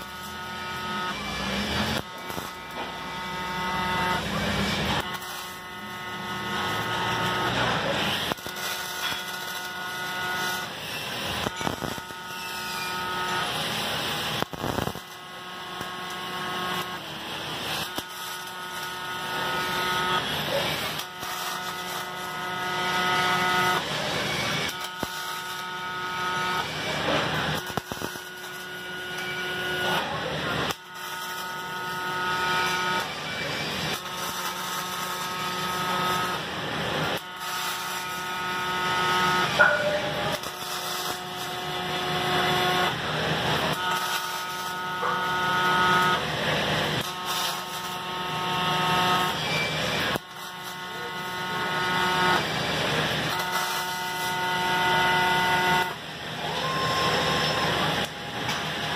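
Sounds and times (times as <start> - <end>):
welding arc crackling: 0.0 - 58.9.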